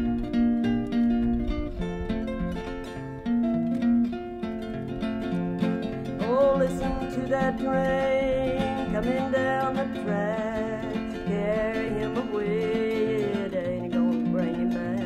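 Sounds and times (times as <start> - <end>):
acoustic guitar fingerpicking: 0.0 - 15.0.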